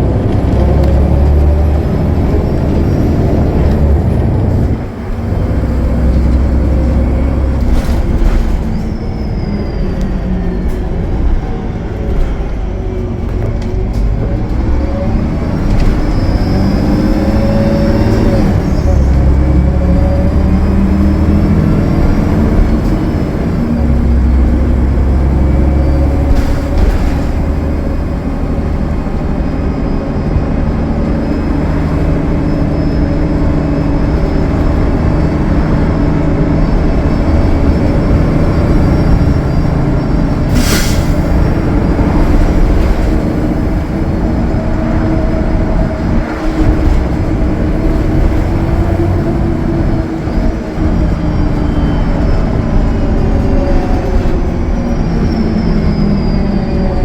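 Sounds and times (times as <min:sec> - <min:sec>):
bus diesel engine running: 0:00.0 - 0:57.0
road noise: 0:00.0 - 0:57.0.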